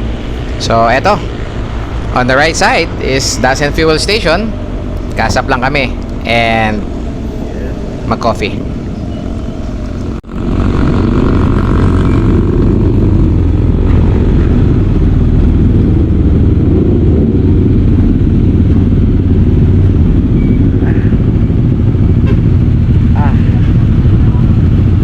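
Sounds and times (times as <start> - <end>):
motorcycle engine drone: 0.0 - 25.0
wind rush on microphone: 0.0 - 25.0.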